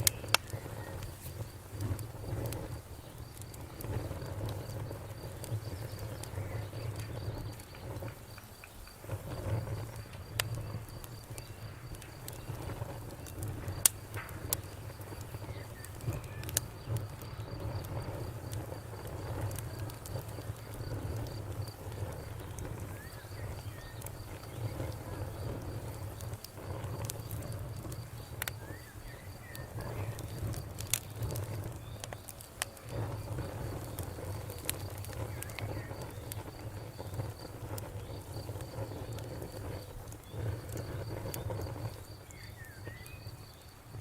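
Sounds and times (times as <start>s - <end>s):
campfire crackling and popping: 0.0s - 44.0s
insects chirring: 0.0s - 44.0s.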